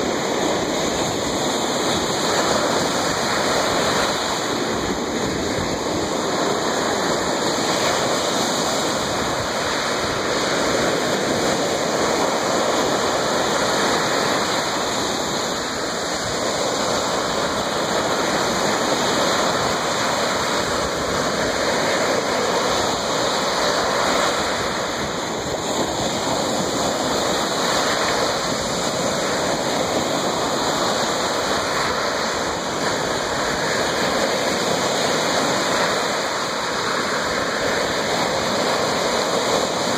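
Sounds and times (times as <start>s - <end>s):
water washing on shore: 0.0s - 39.9s.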